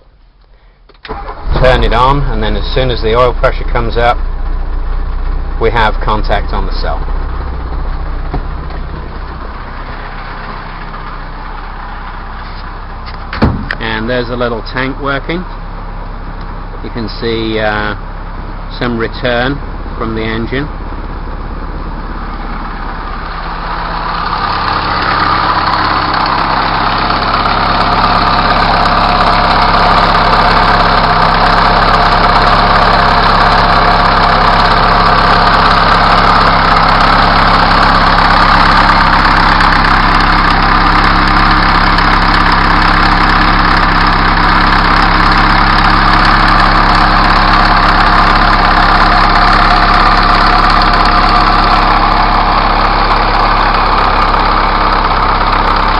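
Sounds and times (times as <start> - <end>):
diesel truck engine idling: 0.0 - 55.9.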